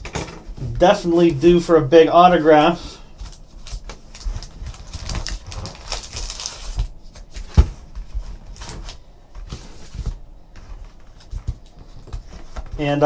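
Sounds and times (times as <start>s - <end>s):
card packs rustling and sliding: 0.9s - 13.0s.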